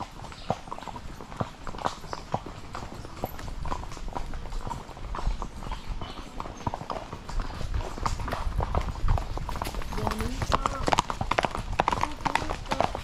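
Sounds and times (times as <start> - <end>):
horse hooves clopping on dirt: 0.0 - 13.0.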